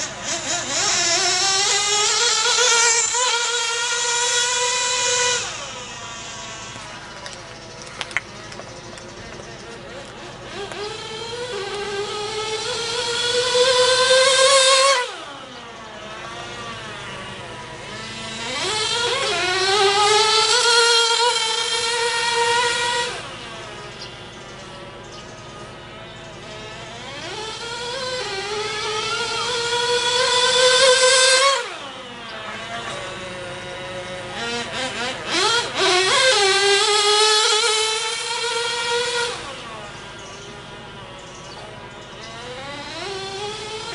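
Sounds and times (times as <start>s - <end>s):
small nitro engine whining: 0.0s - 43.9s.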